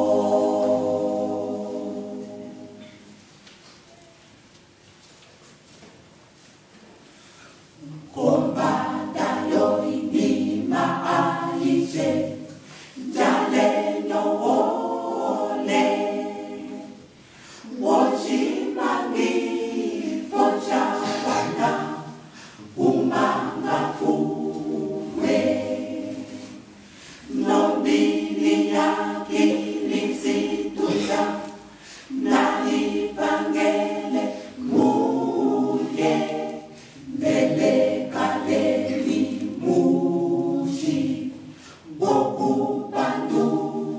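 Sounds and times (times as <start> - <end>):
mixed choir singing a cappella: 0.0 - 3.2, 7.3 - 43.9.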